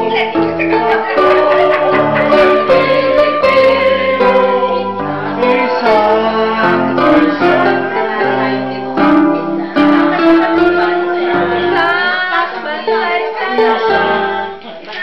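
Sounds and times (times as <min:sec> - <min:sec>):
electronic keyboard: 0:00.0 - 0:14.7
women singing in unison: 0:00.0 - 0:15.0.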